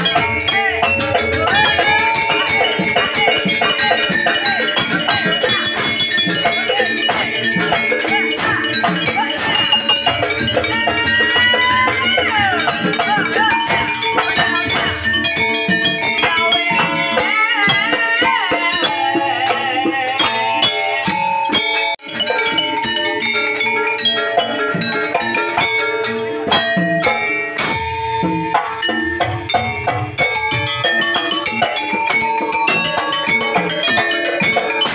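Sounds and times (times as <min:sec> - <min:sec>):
drumming: 0:00.0 - 0:34.9
rattling percussion: 0:00.0 - 0:34.9
wavering high melody: 0:00.0 - 0:34.9.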